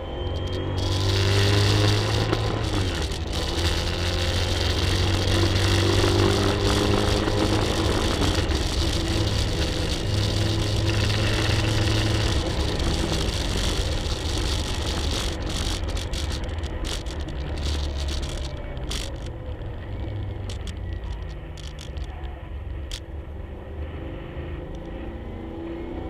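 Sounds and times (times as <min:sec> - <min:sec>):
car engine drone: 0:00.0 - 0:26.0
wind and road noise: 0:00.0 - 0:26.0
clicks and rattles: 0:00.3 - 0:23.0.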